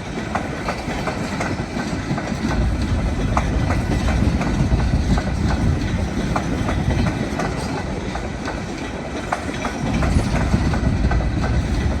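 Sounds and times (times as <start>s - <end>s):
train cars rumbling past: 0.0s - 12.0s
wheels clicking over rail joints: 0.0s - 12.0s.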